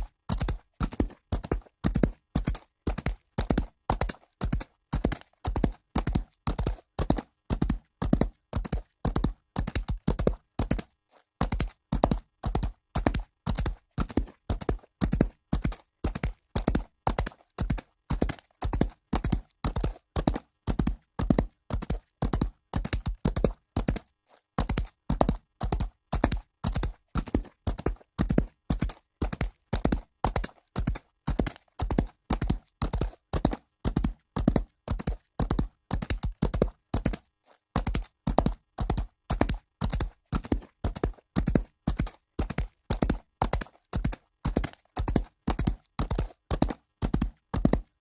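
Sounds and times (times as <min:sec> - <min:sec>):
horse hooves galloping on dirt: 0:00.0 - 0:48.0.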